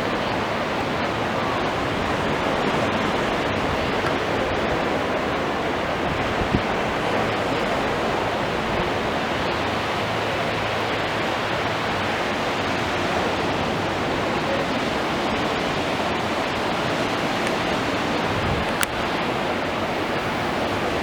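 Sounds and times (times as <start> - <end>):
water rushing: 0.0 - 21.0
wind: 0.0 - 21.0.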